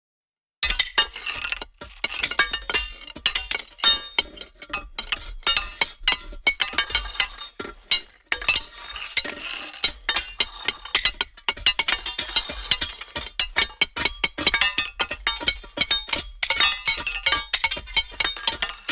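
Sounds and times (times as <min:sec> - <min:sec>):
metal banging against rocks: 0:00.6 - 0:18.9.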